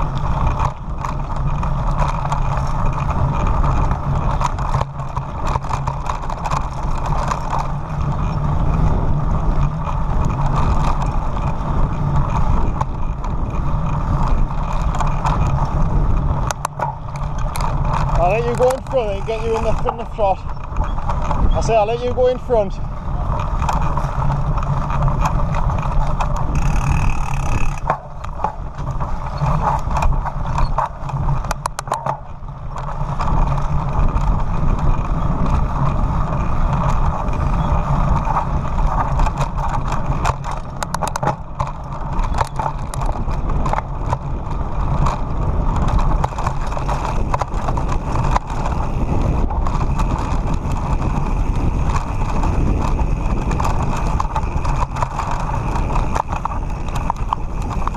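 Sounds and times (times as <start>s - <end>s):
bike rattling over bumps: 0.0s - 57.9s
tyres rolling over gravel: 0.0s - 57.9s
wind rushing over microphone: 0.0s - 57.9s.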